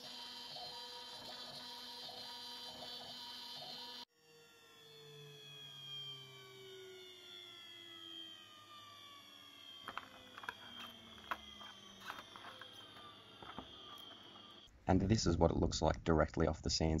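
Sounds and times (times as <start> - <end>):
mill spindle whine falling in pitch: 0.0 - 14.7.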